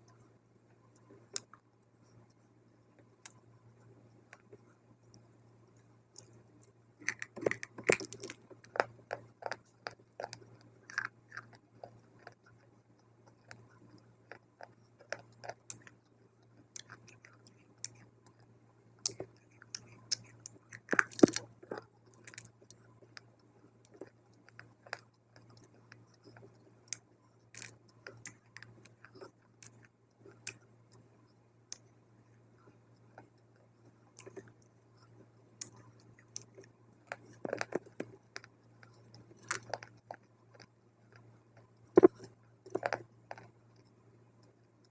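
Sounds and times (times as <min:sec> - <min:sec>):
dry clay crunching when chewed: 0:06.1 - 0:31.0, 0:33.0 - 0:44.9.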